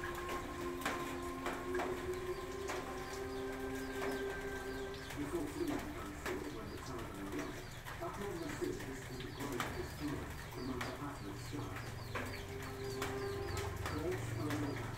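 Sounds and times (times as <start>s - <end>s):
doves cooing: 0.0s - 14.9s
rain hiss: 0.0s - 14.9s
water drips: 0.0s - 14.9s.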